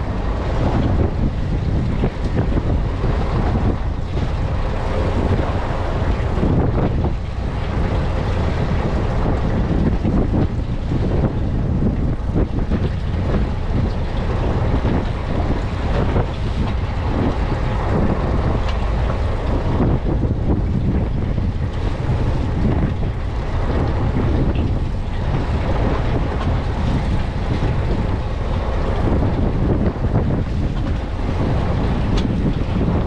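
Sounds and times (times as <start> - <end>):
boat engine running: 0.0 - 33.0
water noise: 0.0 - 33.0
wind on microphone: 0.0 - 33.0.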